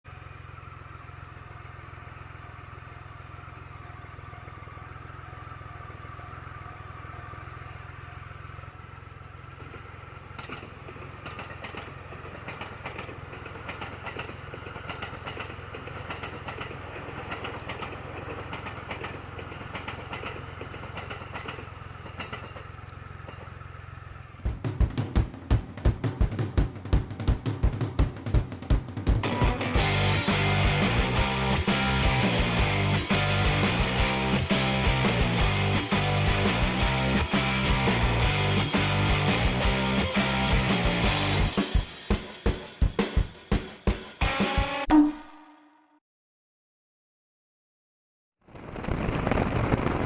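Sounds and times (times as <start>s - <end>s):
motorcycle engine rumbling: 0.1s - 42.3s, 48.5s - 50.0s.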